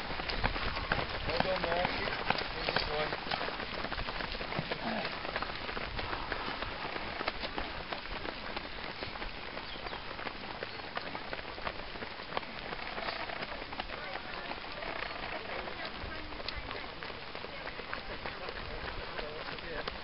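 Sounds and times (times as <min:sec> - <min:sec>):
footsteps slapping on wet tarmac: 0:00.0 - 0:20.0.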